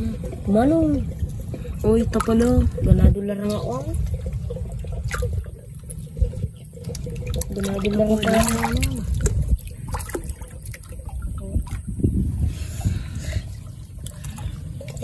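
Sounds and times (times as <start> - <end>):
steady low rumble: 0.0 - 15.0
water splashing and trickling: 0.0 - 15.0.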